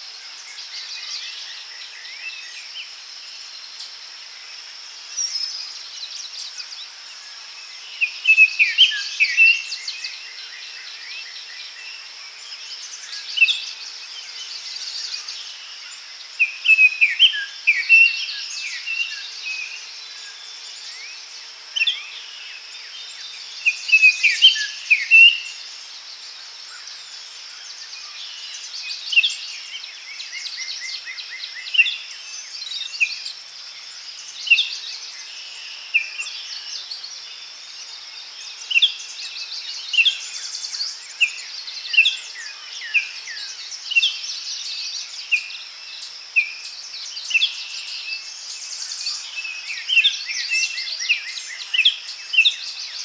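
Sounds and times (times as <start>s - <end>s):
insects buzzing: 0.0s - 53.0s
songbirds chirping: 0.0s - 53.0s.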